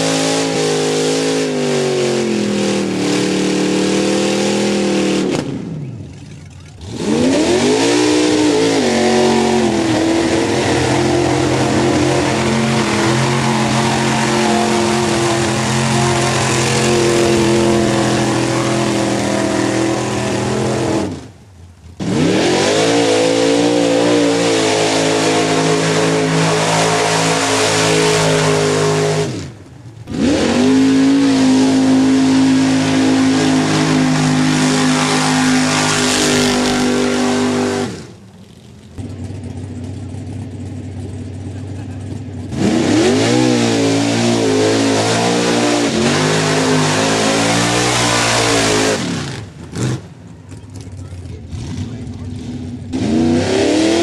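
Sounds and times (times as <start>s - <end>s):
truck engines revving high: 0.0s - 54.0s.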